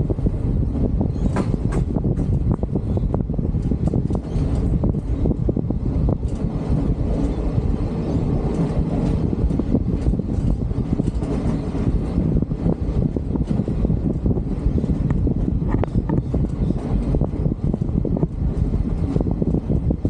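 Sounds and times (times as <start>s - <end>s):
railcar wheels rumbling on rail: 0.0s - 20.0s.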